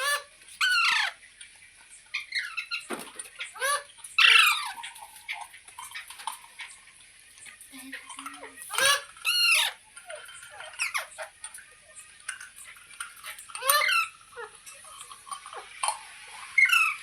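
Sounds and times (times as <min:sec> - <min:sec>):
parrot squawking: 0:00.0 - 0:01.2, 0:02.0 - 0:17.0.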